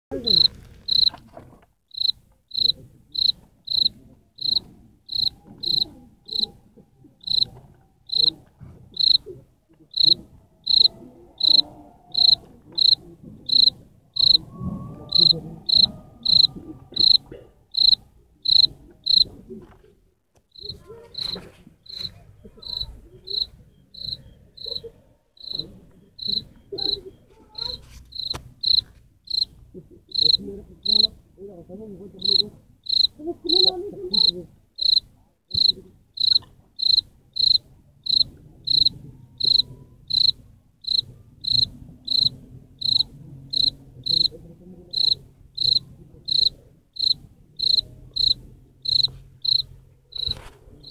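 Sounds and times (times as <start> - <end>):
cricket chirping: 0.1 - 1.2, 1.9 - 6.6, 7.2 - 7.5, 8.1 - 9.3, 9.9 - 14.5, 15.1 - 19.3, 20.6 - 29.5, 30.1 - 31.1, 32.2 - 50.9.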